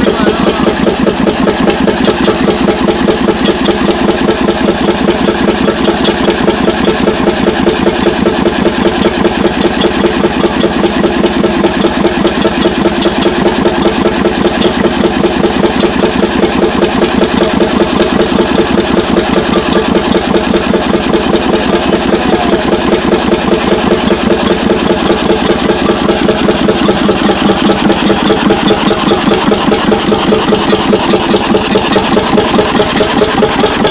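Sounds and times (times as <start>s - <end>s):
boat engine idling: 0.0s - 33.9s.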